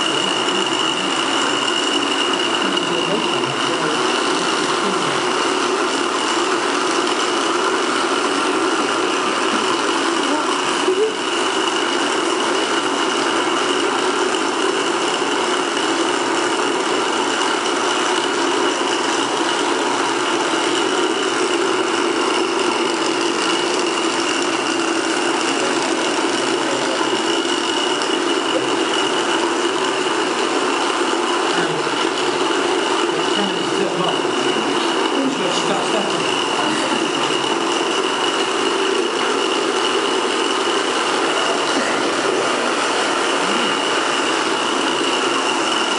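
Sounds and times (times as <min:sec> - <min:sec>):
small motors whirring: 0:00.0 - 0:45.9.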